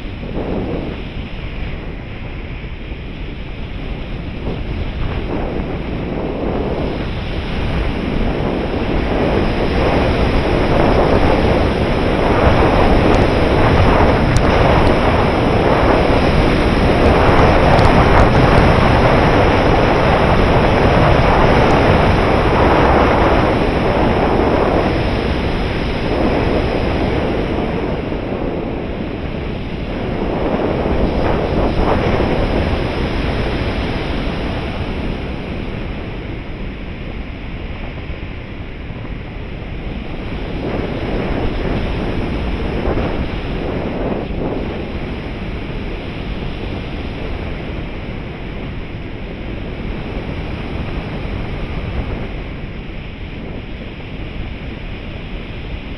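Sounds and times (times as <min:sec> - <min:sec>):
rushing wind over camera: 0:00.0 - 0:55.9.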